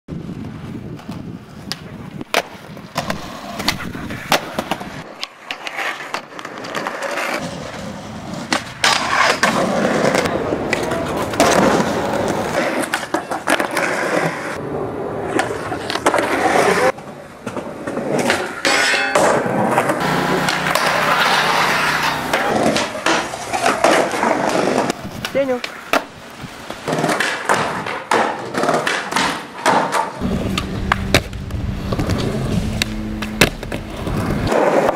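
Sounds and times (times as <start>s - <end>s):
skateboard wheels rolling on concrete: 0.1s - 34.9s
skateboard popping and landing: 0.7s - 14.6s, 15.2s - 34.9s.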